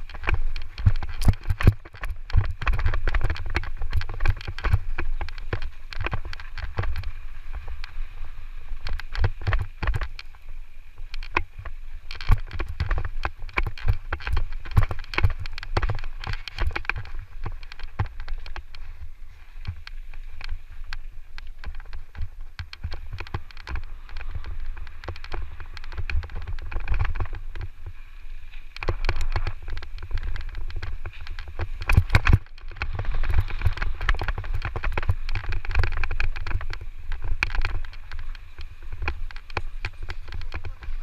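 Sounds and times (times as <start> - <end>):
bike clattering over rough ground: 0.0 - 7.9, 8.7 - 10.4, 11.0 - 28.0, 28.7 - 41.0
wind buffeting microphone: 0.0 - 41.0.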